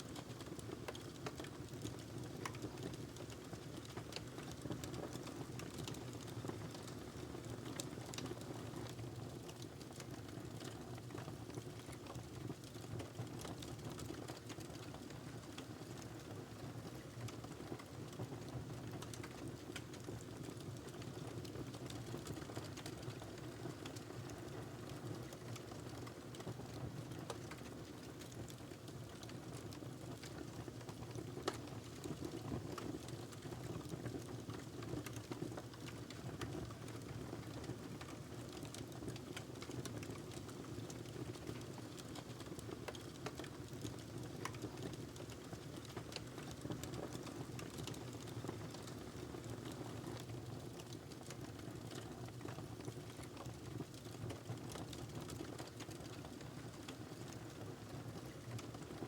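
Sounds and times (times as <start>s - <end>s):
fire crackling and popping: 0.1s - 59.0s.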